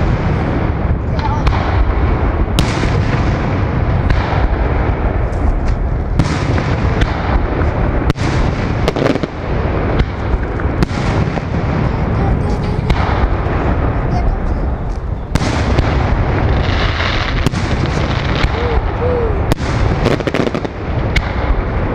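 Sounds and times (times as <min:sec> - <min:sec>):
continuous heavy rumble: 0:00.0 - 0:21.9
fireworks bangs and cracks: 0:00.0 - 0:21.9.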